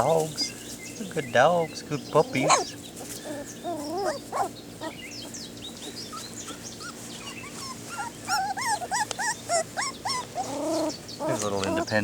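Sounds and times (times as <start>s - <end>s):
small birds chirping: 0.0s - 12.0s
puppies squeaking and whimpering: 1.0s - 12.0s.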